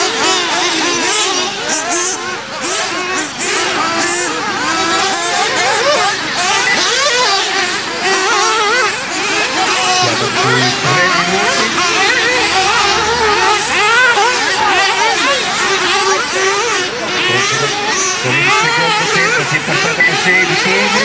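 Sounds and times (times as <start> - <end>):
rc buggy motors whining: 0.0 - 21.0.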